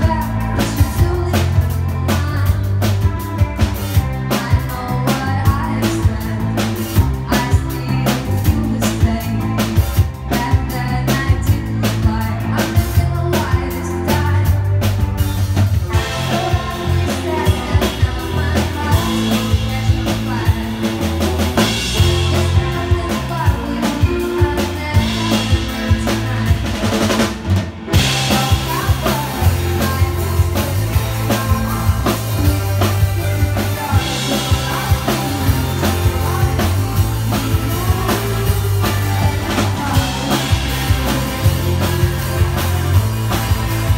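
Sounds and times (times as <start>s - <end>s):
woman singing: 0.0s - 15.2s, 15.8s - 43.9s
drum kit: 0.0s - 43.9s
electric bass line: 0.0s - 43.9s
electric guitar: 0.0s - 43.9s.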